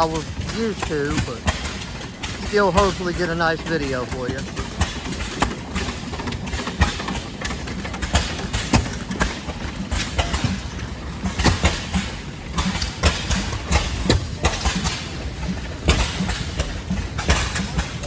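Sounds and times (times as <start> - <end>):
sharp exhaust pops: 0.0 - 18.0
stationary engines running: 0.0 - 18.0.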